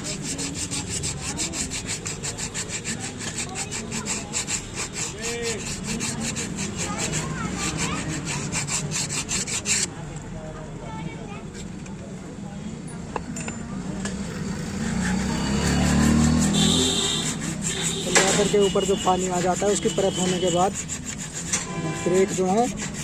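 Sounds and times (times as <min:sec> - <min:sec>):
brake shoe being scrubbed: 0:00.0 - 0:09.9, 0:14.1 - 0:23.0.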